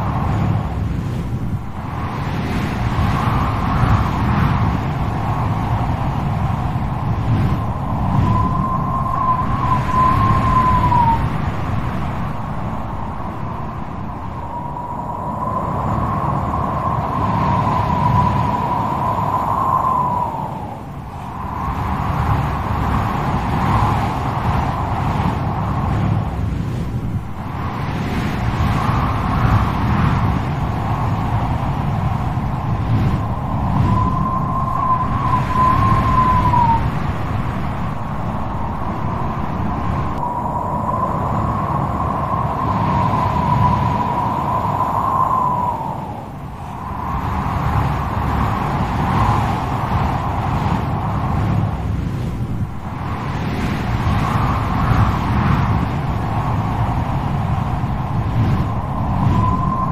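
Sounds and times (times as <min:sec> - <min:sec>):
strong wind blowing: 0:00.0 - 0:59.9
whistling howl of wind: 0:00.0 - 0:59.9.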